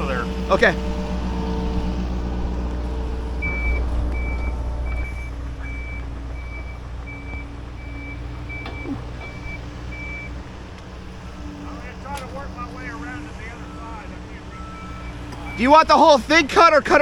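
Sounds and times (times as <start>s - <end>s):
low engine running: 0.0s - 17.0s
reversing alarm beeping: 0.7s - 16.3s.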